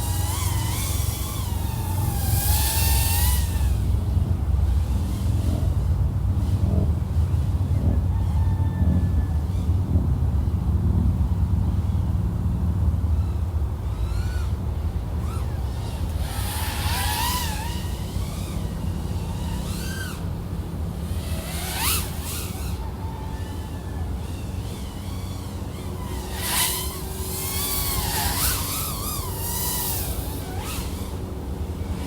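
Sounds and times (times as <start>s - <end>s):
quadcopter motor whine: 0.0s - 32.0s.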